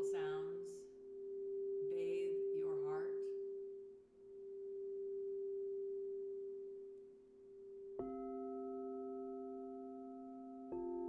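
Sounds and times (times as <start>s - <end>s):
crystal singing bowl ringing: 0.0s - 11.0s.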